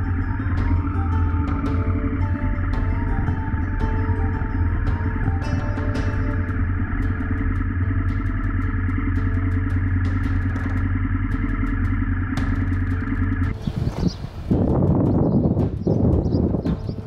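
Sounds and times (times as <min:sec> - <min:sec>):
motorcycle engine running at low revs: 0:00.0 - 0:17.0
wind noise on microphone: 0:00.0 - 0:17.0.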